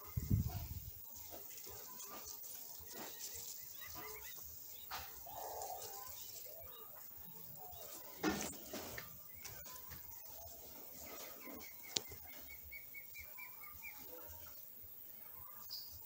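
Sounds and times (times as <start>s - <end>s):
rustle: 0.0s - 16.0s.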